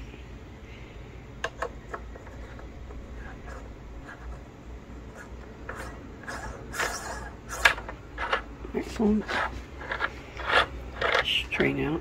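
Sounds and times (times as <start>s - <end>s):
threads rubbing and scraping: 1.9s - 11.9s.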